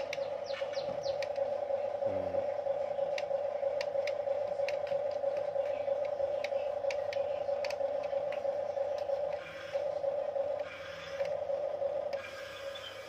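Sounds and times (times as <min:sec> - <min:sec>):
toy electric motors whining: 0:00.0 - 0:13.0.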